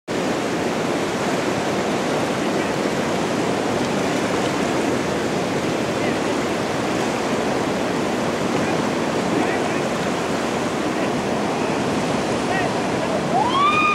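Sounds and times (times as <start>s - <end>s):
river rapids rushing: 0.1s - 13.9s.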